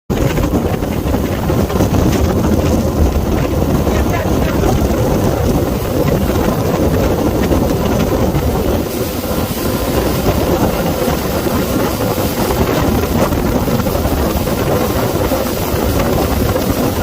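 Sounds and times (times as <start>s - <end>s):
motorboat engine running: 0.1s - 17.0s
wind buffeting microphone: 0.1s - 17.0s.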